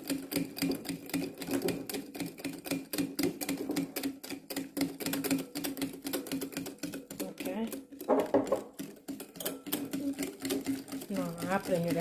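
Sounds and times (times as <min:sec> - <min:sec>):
whisk clicking against glass bowl: 0:00.0 - 0:12.0.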